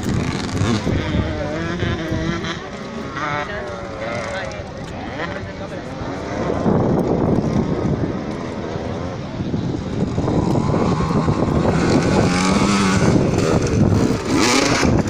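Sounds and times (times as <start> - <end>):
motocross bike engines revving: 0.0 - 15.0
spectators' voices: 0.7 - 15.0.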